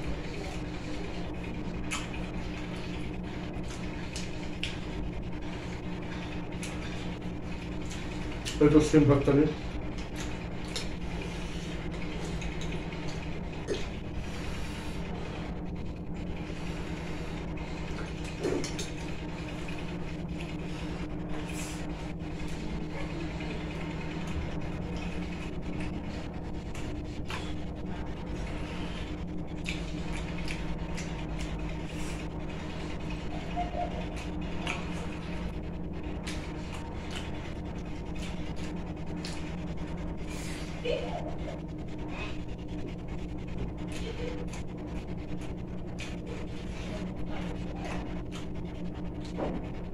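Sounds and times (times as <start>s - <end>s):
steady mechanical hum: 0.0s - 49.9s.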